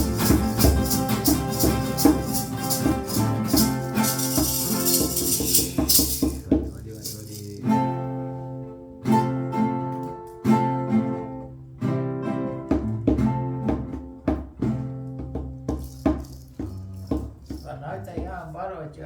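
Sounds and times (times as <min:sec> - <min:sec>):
acoustic guitar strumming chords: 0:00.0 - 0:15.7.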